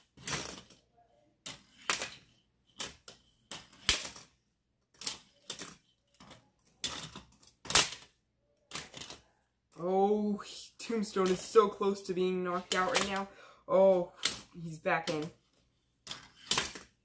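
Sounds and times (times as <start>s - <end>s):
plastic toys clacking and scraping: 0.0s - 17.0s.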